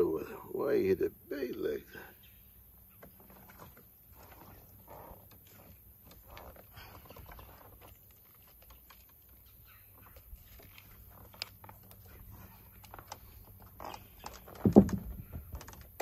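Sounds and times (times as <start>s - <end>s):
rustling: 2.9s - 16.0s.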